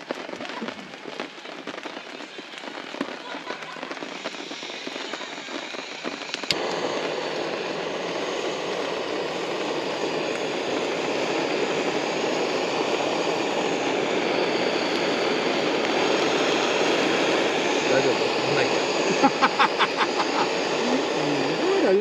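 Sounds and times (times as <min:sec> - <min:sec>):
meat sizzling in a hot pan: 0:01.2 - 0:22.0.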